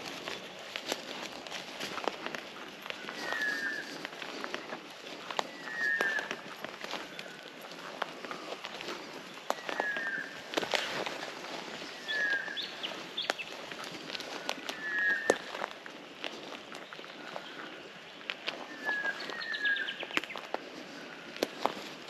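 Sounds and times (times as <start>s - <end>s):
footsteps snapping through bush: 0.0s - 22.0s.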